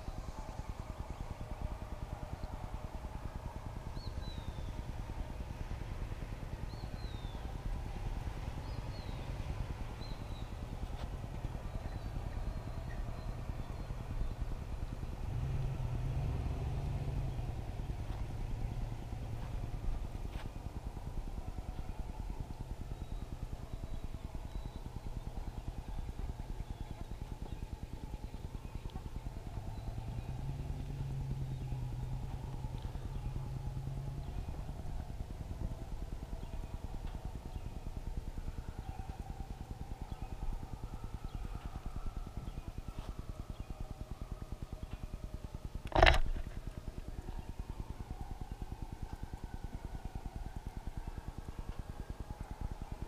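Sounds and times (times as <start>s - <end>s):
steady low hum: 0.0s - 53.0s
vehicle engine rumbling: 0.0s - 53.0s.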